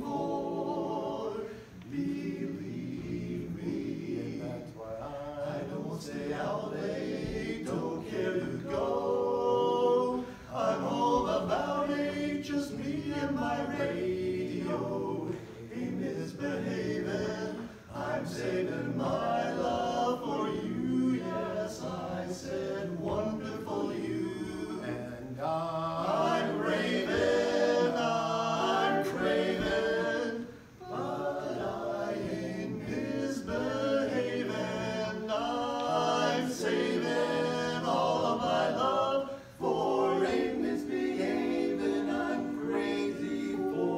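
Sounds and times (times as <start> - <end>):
men singing in close harmony: 0.0 - 43.9.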